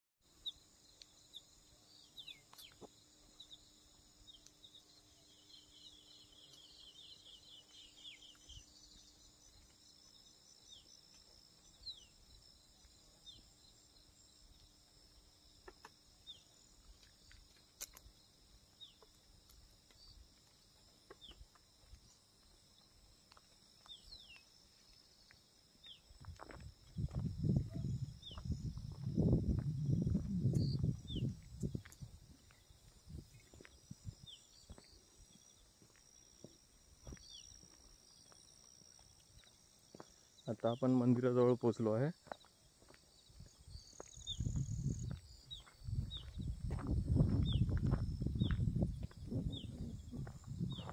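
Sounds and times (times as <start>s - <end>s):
insects droning: 0.2s - 50.9s.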